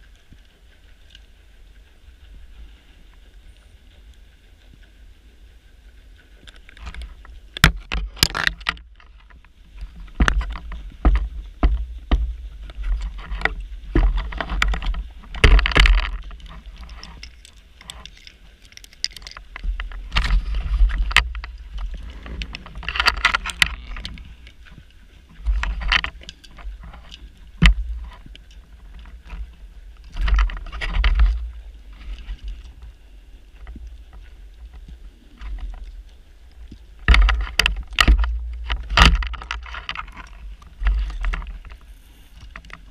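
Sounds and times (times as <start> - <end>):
sharp clicks of diving gear: 6.1 - 33.0, 33.6 - 42.9.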